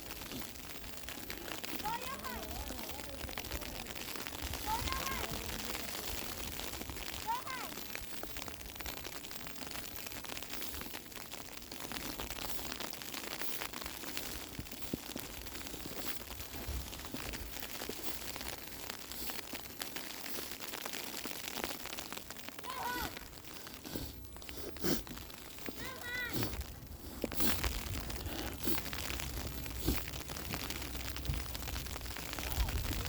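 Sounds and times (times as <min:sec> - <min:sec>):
snow pattering on surfaces: 0:00.0 - 0:33.0.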